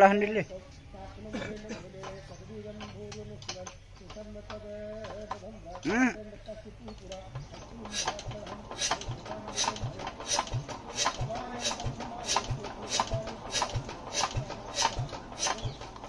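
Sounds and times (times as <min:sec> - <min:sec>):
diesel engine hand cranked thuds: 0:01.8 - 0:05.9, 0:06.8 - 0:16.0.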